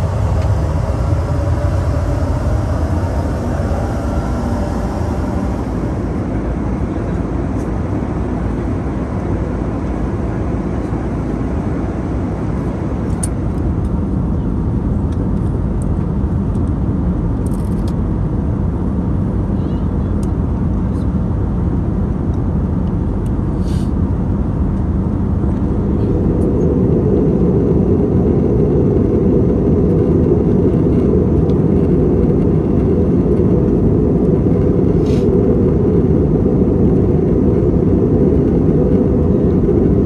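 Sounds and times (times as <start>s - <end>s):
airplane cabin noise in flight: 0.0s - 40.0s.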